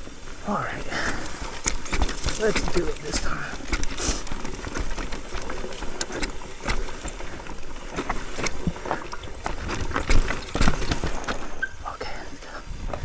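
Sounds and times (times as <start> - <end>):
dirt and gravel crunching: 0.0 - 13.0.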